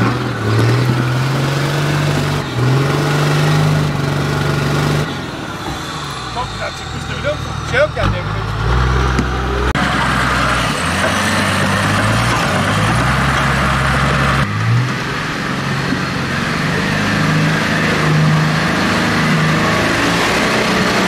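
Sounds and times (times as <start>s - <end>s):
diesel engine working under load: 0.0s - 21.0s.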